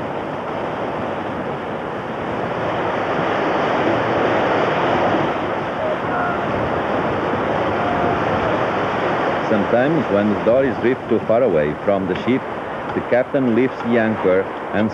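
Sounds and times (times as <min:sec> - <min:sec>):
waves washing across deck: 0:00.0 - 0:14.9.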